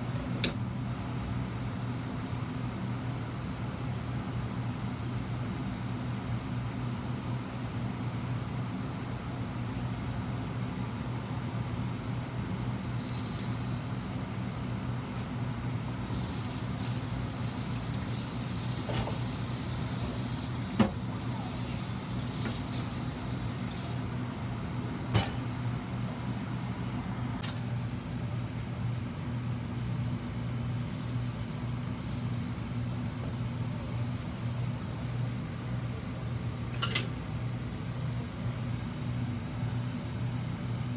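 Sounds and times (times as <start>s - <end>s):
extractor fan humming: 0.0s - 40.9s.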